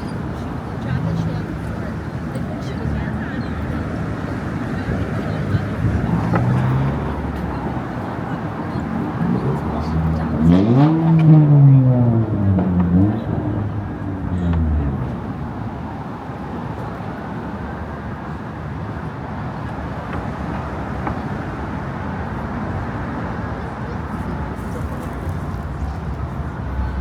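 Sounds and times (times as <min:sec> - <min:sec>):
car traffic: 0:00.0 - 0:27.0.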